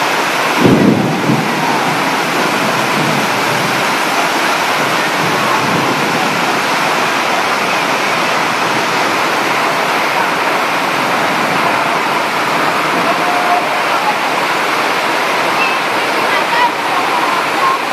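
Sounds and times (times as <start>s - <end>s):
rushing water from downpour: 0.0s - 17.9s.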